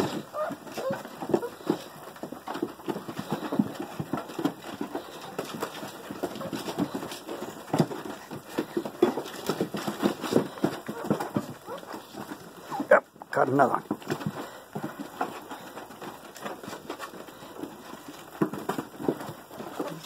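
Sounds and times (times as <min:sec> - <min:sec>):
puppy claws scrabbling on wood: 0:00.0 - 0:20.0.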